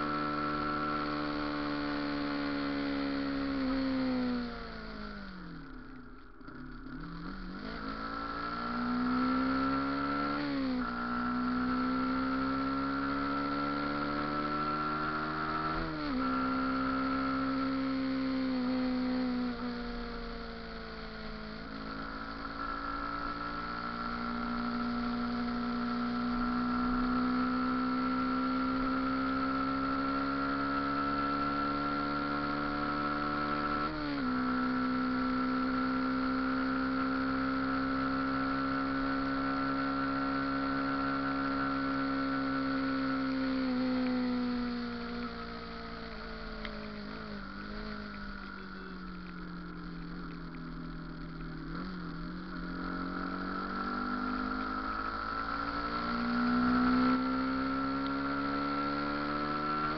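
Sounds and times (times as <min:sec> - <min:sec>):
motorcycle engine revving: 0:00.0 - 0:59.9
steady high whine: 0:00.0 - 0:59.9.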